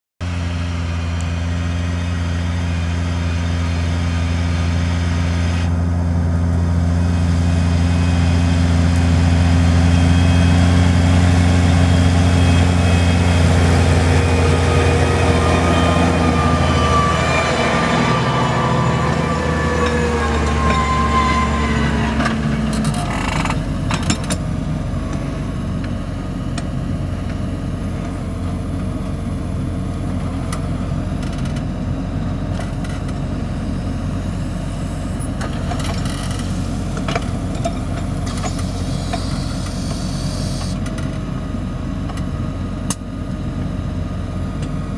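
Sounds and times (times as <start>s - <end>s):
tractor diesel engine: 0.2s - 44.9s.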